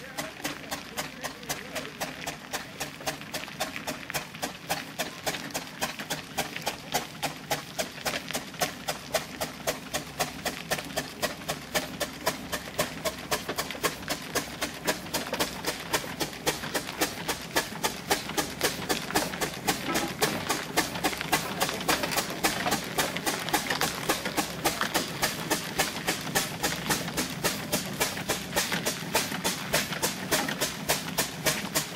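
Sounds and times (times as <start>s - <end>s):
steam engine running: 0.0s - 31.9s.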